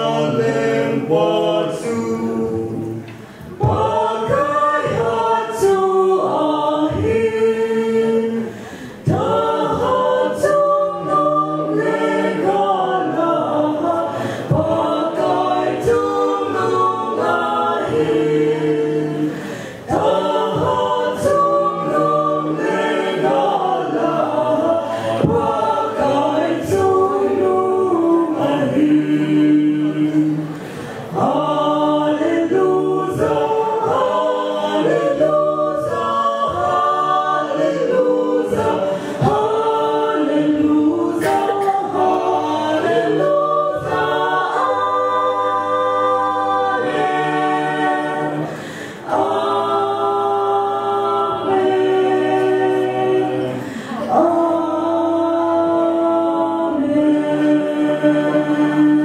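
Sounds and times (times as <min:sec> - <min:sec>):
vocal quartet singing in harmony: 0:00.0 - 0:59.0.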